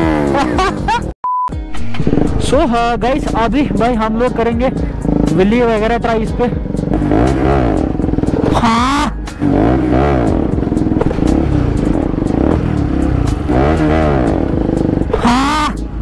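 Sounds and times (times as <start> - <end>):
motorcycle engine revving: 0.0 - 1.0, 1.8 - 16.0.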